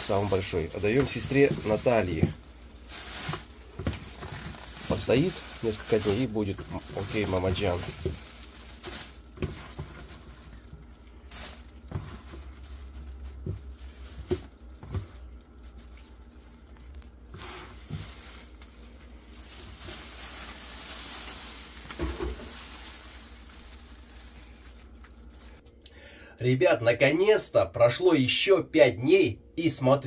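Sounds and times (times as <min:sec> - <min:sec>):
soft rustle: 0:00.0 - 0:25.6.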